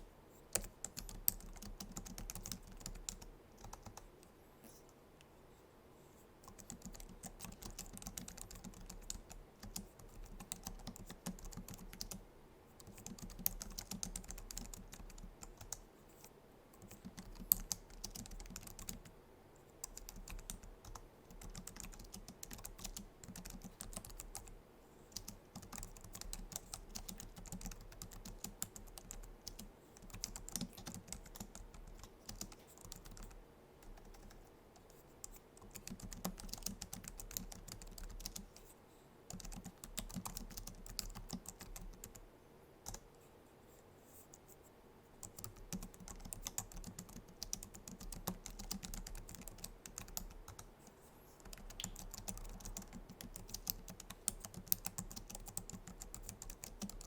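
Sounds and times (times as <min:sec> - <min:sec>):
keyboard typing clicks: 0:00.5 - 0:04.1, 0:06.4 - 0:12.2, 0:12.8 - 0:15.8, 0:16.8 - 0:19.1, 0:19.8 - 0:24.5, 0:25.1 - 0:38.7, 0:39.3 - 0:42.2, 0:42.8 - 0:43.0, 0:45.2 - 0:50.7, 0:51.4 - 0:57.0.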